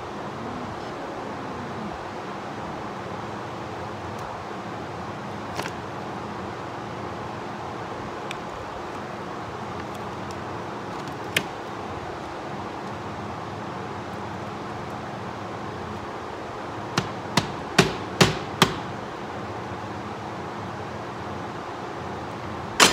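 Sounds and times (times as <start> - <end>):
steady shop hum: 0.0 - 22.9.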